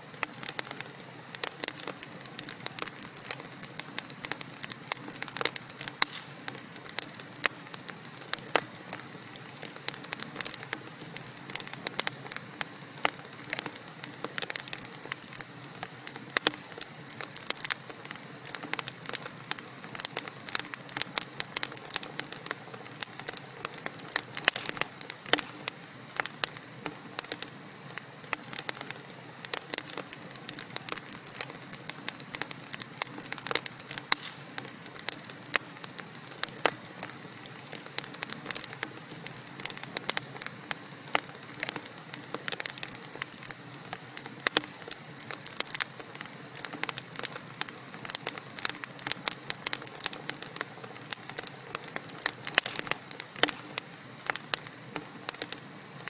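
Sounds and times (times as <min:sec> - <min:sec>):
logs crackling and popping: 0:00.0 - 0:56.0.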